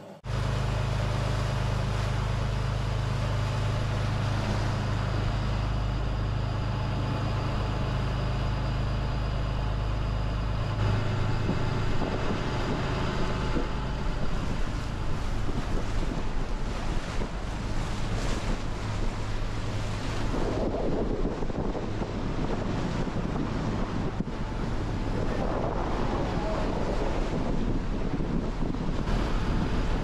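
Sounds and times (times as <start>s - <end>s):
boat engines droning: 0.0s - 30.0s
rush of churning wake: 0.0s - 30.0s
wind noise on microphone: 0.3s - 30.0s.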